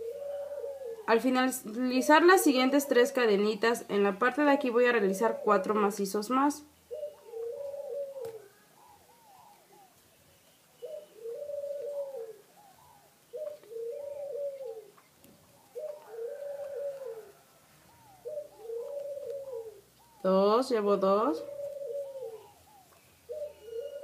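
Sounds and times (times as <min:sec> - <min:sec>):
bird calling low arching calls: 0:00.0 - 0:24.0.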